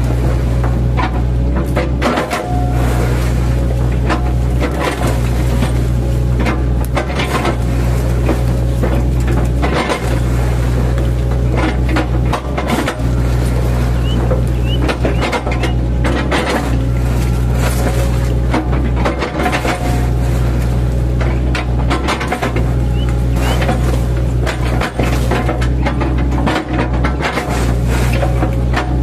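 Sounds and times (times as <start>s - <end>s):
bucket chopping tree trunks: 0.0s - 29.0s
diesel engine under load: 0.0s - 29.0s.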